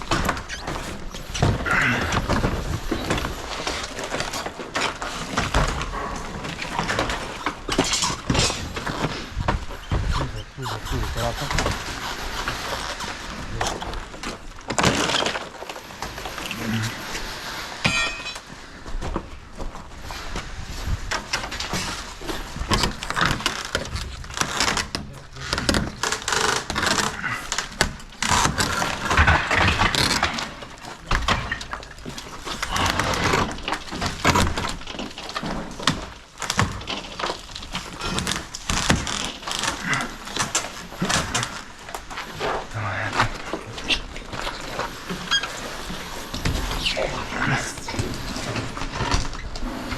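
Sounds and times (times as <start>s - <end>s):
clatter of building work: 0.0s - 49.9s.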